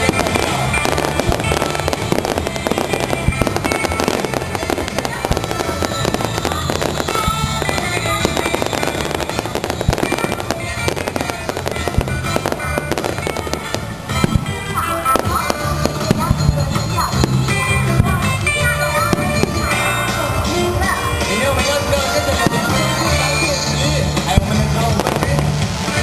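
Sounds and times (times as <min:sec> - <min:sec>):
fireworks bursting and crackling: 0:00.0 - 0:26.0
music with steady bass line: 0:00.0 - 0:26.0.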